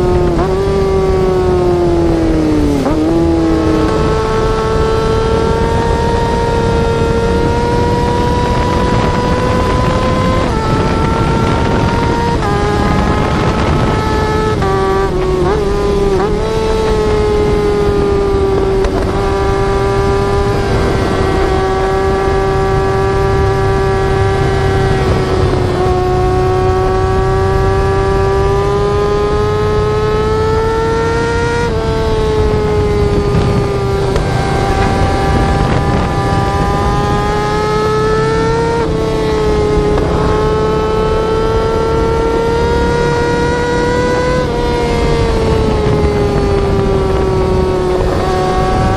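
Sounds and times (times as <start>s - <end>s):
motorcycle engine at high revs: 0.0s - 48.9s
road noise: 0.0s - 48.9s
wind noise: 0.0s - 48.9s.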